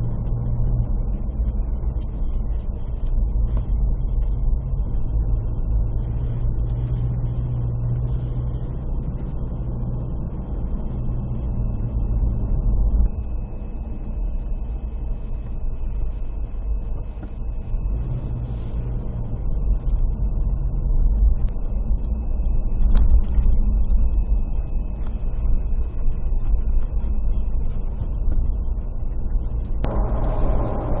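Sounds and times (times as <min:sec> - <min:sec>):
faint high whine: 0:00.0 - 0:31.0
vehicle rumble while moving: 0:00.0 - 0:31.0.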